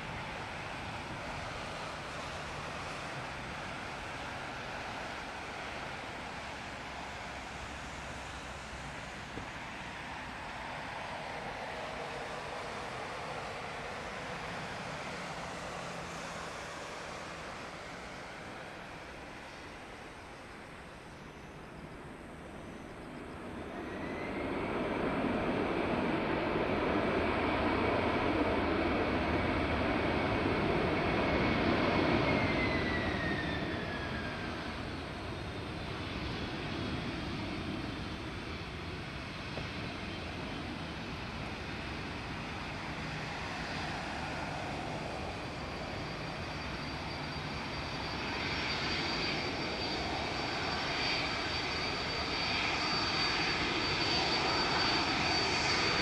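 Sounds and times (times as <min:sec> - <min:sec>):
jet engines whining and rumbling: 0:00.0 - 0:56.0.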